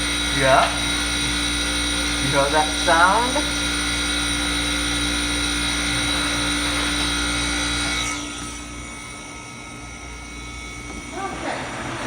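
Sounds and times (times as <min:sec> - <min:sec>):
ice machine humming and whining: 0:00.0 - 0:12.0.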